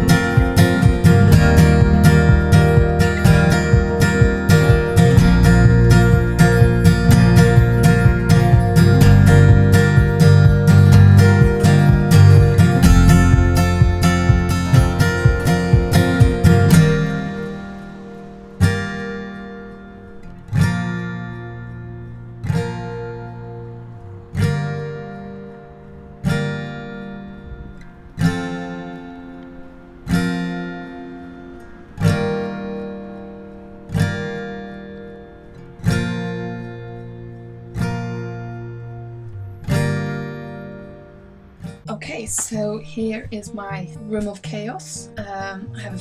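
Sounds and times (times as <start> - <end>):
acoustic guitar strumming slow chords: 0.0 - 46.0.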